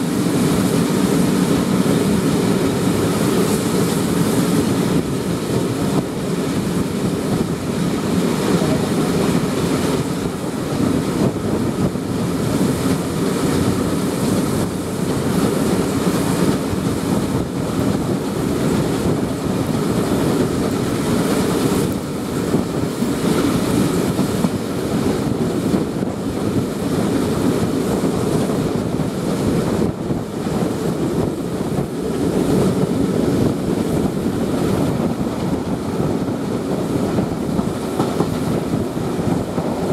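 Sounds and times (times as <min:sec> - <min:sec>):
train wheels rumbling on rails: 0:00.0 - 0:39.9
wind buffeting microphone: 0:00.0 - 0:39.9.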